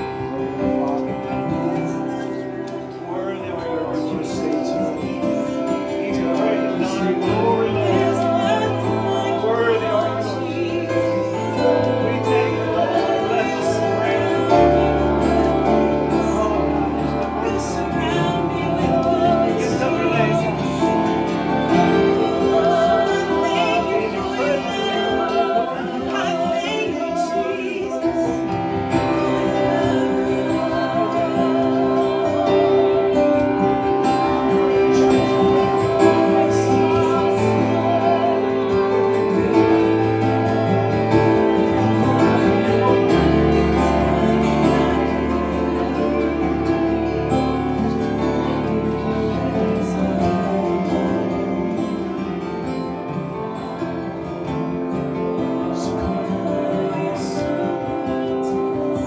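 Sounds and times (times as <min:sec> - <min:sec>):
person singing: 0:00.0 - 0:59.0
sustained worship music chords: 0:00.0 - 0:59.0.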